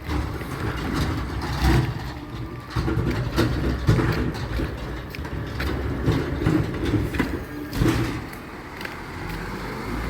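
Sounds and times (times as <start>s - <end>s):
diesel engine running heavily: 0.0s - 10.0s.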